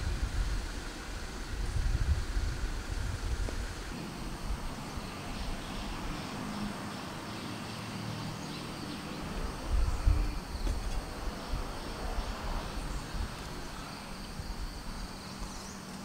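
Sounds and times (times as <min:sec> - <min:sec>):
birds or insects chirping: 0:00.0 - 0:16.0
steady background hiss: 0:00.0 - 0:16.0.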